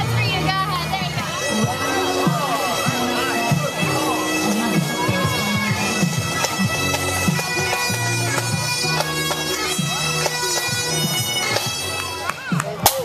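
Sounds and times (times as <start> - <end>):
bagpipes playing: 0.0 - 12.9.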